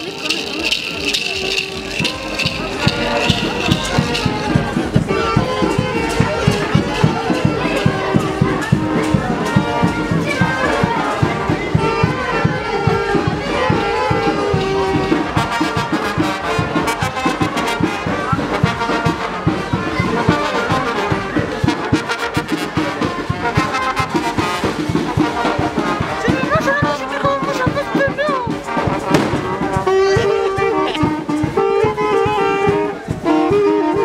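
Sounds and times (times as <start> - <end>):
fast drumbeat: 0.0 - 12.4, 14.5 - 33.5
sharp percussion strokes: 0.0 - 12.7, 13.4 - 33.6
brass band playing: 0.0 - 34.0.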